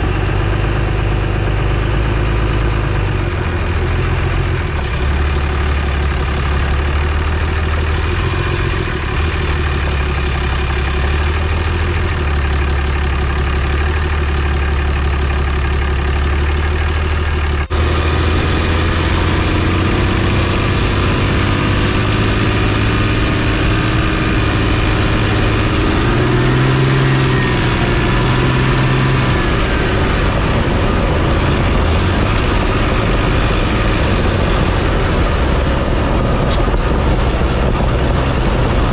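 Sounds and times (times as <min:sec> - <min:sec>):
truck engine humming: 0:00.0 - 0:38.9.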